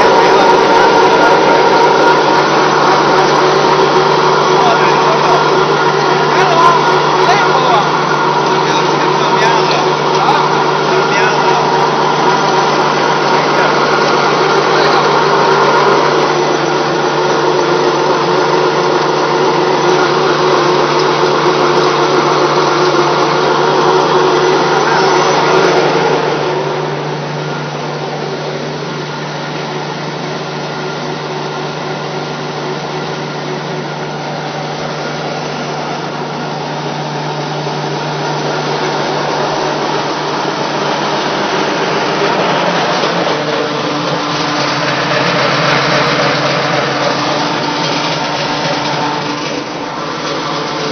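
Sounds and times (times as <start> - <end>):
pellet mill droning: 0.0 - 50.9.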